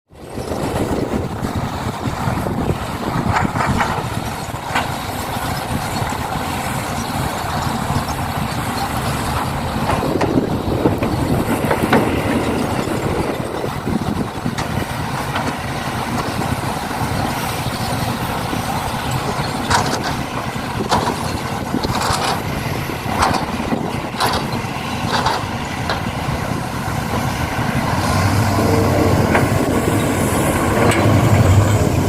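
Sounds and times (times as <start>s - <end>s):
truck engine running: 0.1s - 32.0s.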